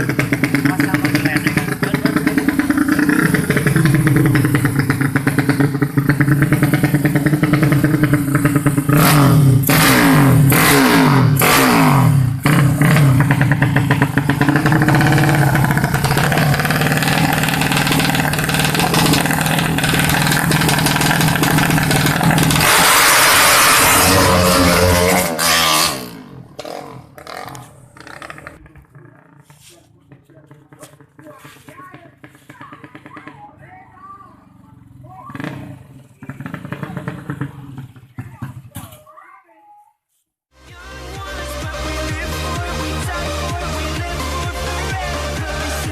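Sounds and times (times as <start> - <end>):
motorcycle engine revving: 0.0 - 38.7, 41.6 - 45.9.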